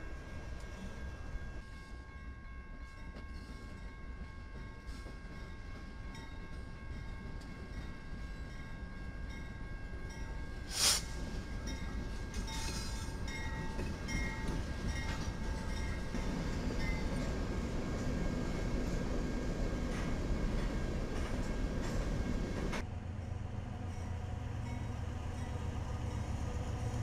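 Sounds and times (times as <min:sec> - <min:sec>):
freight locomotives rumbling past: 0:00.0 - 0:27.0
train cars rolling: 0:03.1 - 0:27.0.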